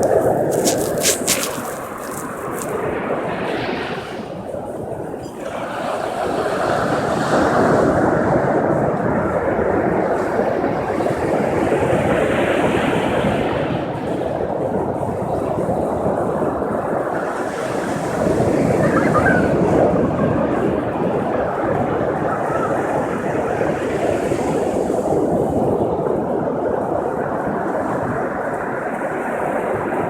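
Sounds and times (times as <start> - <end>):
ocean surf washing onto beach: 0.0 - 30.0
wind on microphone: 0.0 - 30.0.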